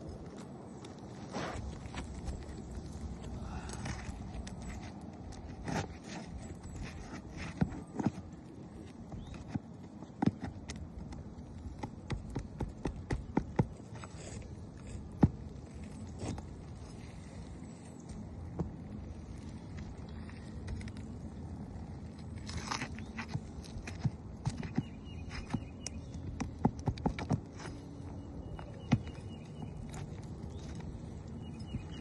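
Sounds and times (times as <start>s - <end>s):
footsteps with knocks and scuffs: 0.2s - 21.1s, 22.0s - 32.0s.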